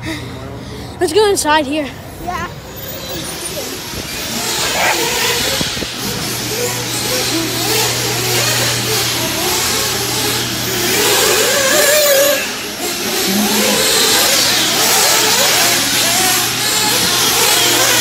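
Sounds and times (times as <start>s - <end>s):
steady low hum: 0.0s - 18.0s
rc car motors racing: 1.4s - 18.0s.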